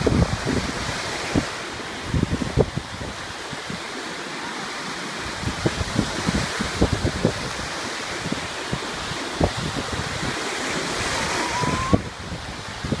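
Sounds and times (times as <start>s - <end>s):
wind buffeting microphone: 0.0s - 4.0s, 5.2s - 13.0s
surf breaking over shallows: 0.0s - 13.0s.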